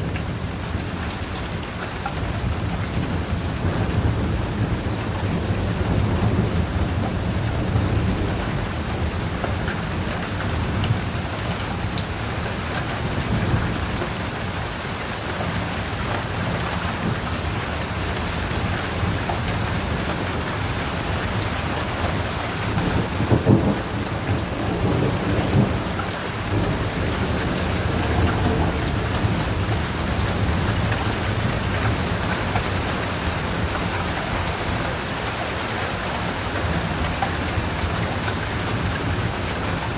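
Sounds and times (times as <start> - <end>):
rain falling: 0.0 - 39.9
low rumble of thunder: 2.2 - 14.8, 15.4 - 34.8.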